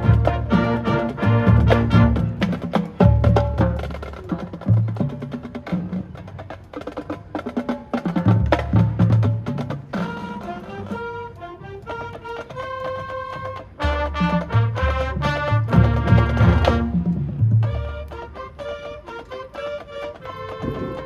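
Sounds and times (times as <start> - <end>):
marching band drums: 0.0 - 21.0
marching band held melodic notes: 0.0 - 21.0.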